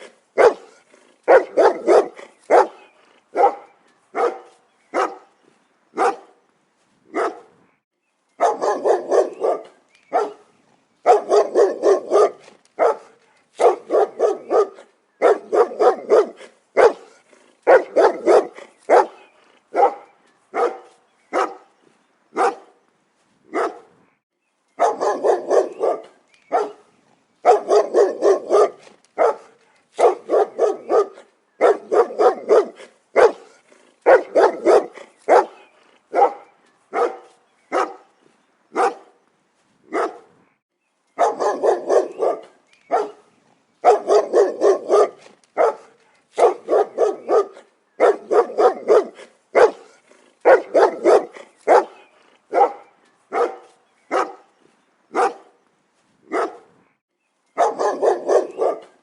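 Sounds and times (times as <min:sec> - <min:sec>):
dog barking: 0:00.0 - 0:05.3, 0:06.0 - 0:06.3, 0:07.1 - 0:07.5, 0:08.4 - 0:10.4, 0:11.0 - 0:21.7, 0:22.4 - 0:22.7, 0:23.5 - 0:23.9, 0:24.8 - 0:38.1, 0:38.7 - 0:39.2, 0:39.9 - 0:40.3, 0:41.2 - 0:43.2, 0:43.8 - 0:54.5, 0:55.1 - 0:55.6, 0:56.3 - 0:56.7, 0:57.6 - 0:59.0.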